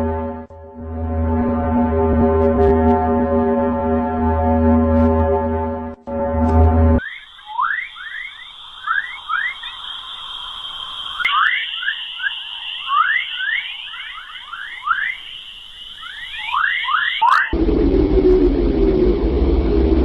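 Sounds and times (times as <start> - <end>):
steady high tone: 0.0 - 20.0.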